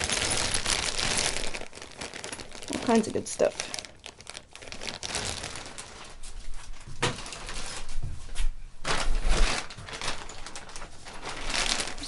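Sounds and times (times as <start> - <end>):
packaging crinkling: 0.0 - 8.0, 8.8 - 12.0
hands rustling through accessories: 0.0 - 12.0.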